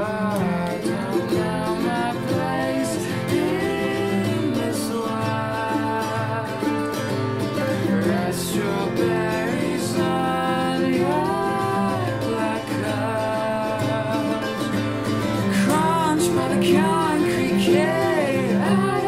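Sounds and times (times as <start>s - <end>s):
acoustic guitar: 0.0s - 19.0s
man and woman singing duet: 0.0s - 19.0s
mandolin: 0.0s - 19.0s.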